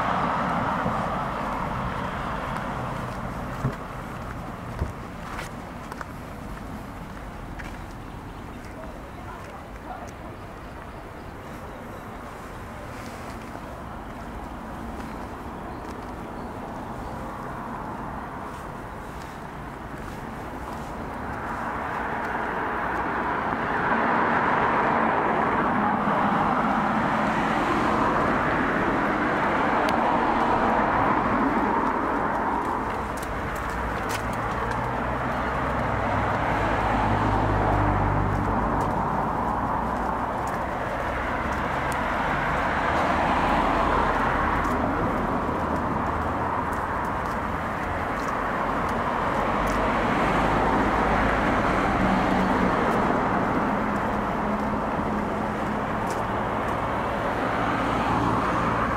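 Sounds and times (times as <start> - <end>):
cars passing on a road: 0.0 - 58.9.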